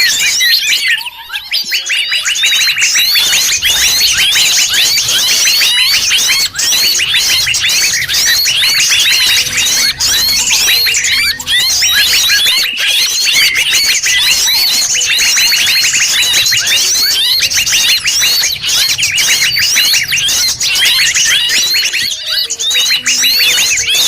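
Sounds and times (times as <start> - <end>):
forest birds calling: 0.0 - 24.0.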